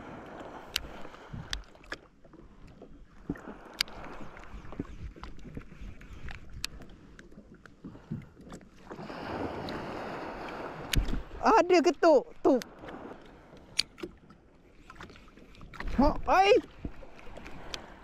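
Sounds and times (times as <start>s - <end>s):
small waves lapping against hull: 0.0s - 18.0s.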